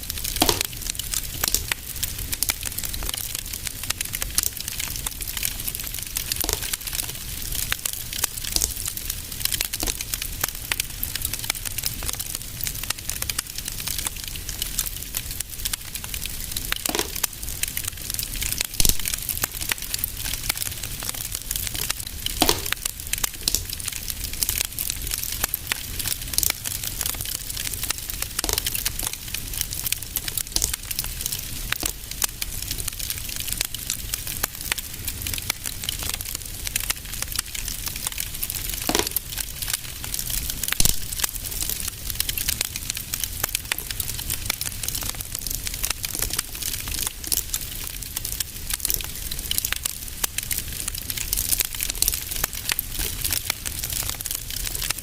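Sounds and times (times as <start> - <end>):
fire popping: 0.0 - 55.0
wood fire crackling: 0.0 - 55.0.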